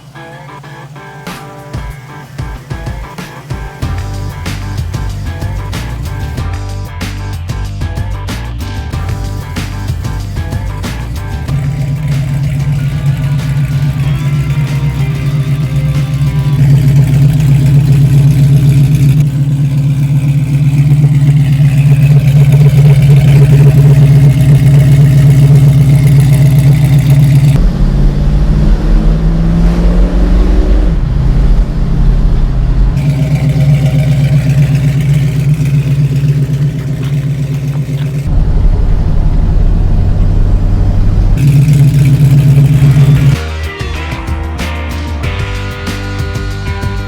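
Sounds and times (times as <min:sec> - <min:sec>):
car engine running: 0:00.0 - 0:43.4.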